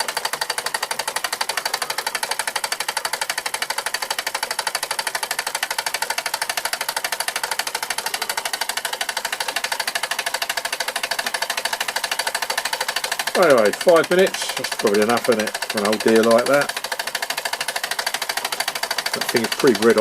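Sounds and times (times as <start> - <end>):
toy steam engine clattering: 0.0 - 20.0.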